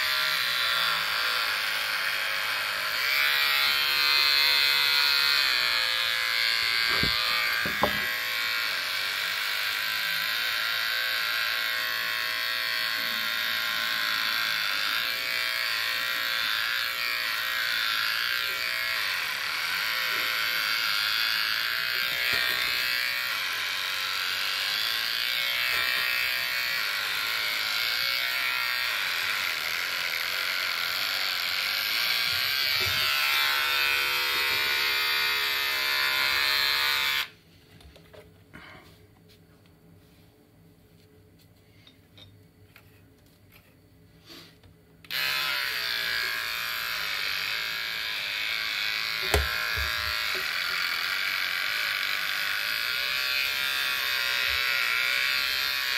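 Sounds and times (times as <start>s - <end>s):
electric hair clippers buzzing: 0.0s - 37.4s, 44.2s - 55.9s.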